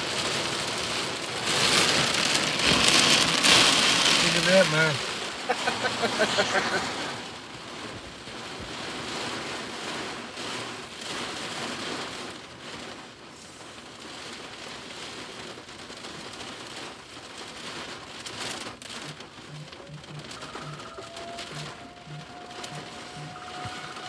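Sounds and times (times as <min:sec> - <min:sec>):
heavy rain on vehicle roof: 0:00.0 - 0:24.0.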